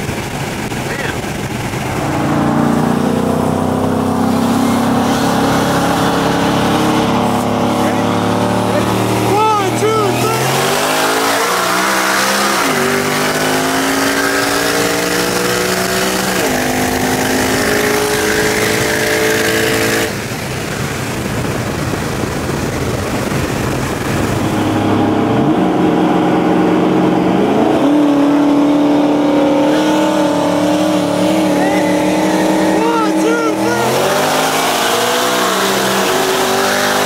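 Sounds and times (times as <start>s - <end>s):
car engine accelerating hard: 0.0s - 37.0s.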